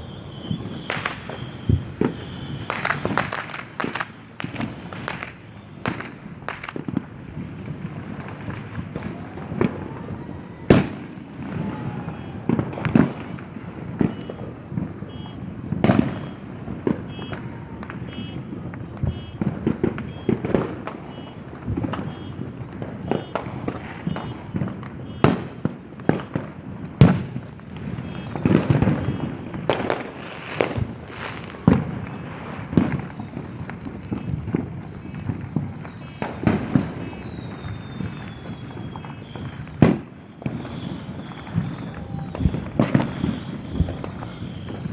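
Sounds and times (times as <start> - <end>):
fireworks bangs and booms: 0.0 - 44.9.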